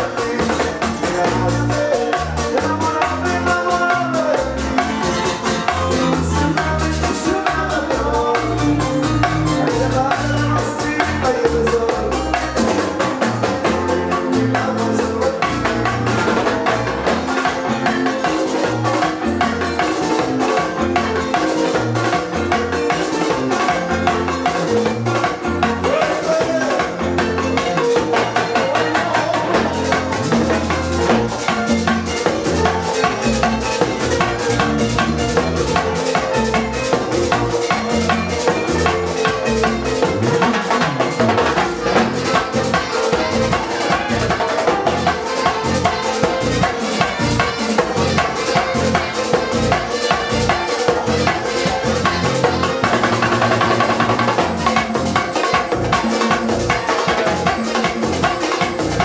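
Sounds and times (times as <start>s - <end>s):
bongos: 0.0s - 59.0s
live latin band music: 0.0s - 59.0s.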